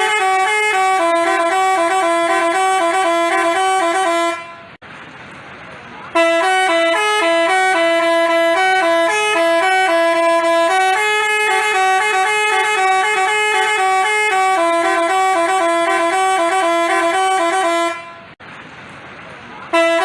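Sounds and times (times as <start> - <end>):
multi-tone musical bus horn: 0.0 - 4.8, 6.1 - 18.4, 19.7 - 20.0.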